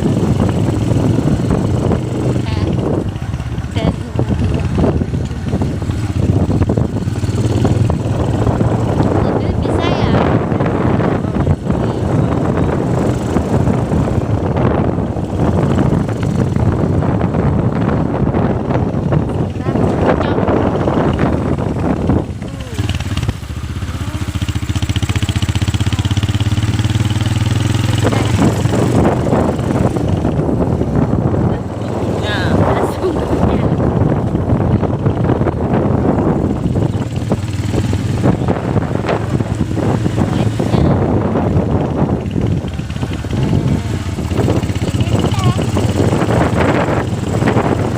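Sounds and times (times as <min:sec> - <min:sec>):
steady low rumble: 0:00.0 - 0:47.9
wind buffeting microphone: 0:00.0 - 0:47.9.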